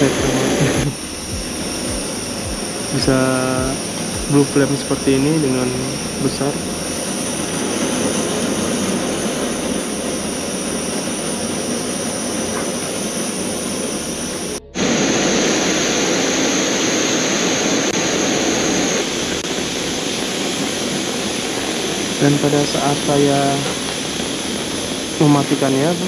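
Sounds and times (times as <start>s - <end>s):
camping stove burner roaring: 0.0s - 26.0s.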